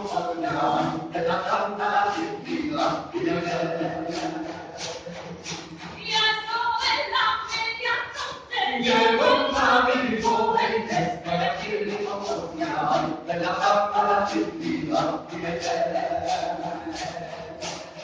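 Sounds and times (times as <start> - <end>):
voices singing a folk song: 0.0 - 18.0.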